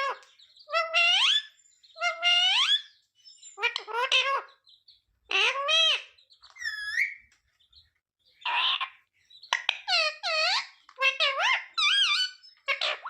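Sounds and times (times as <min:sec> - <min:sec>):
parakeet high-pitched calls: 0:00.0 - 0:07.2, 0:08.4 - 0:13.0.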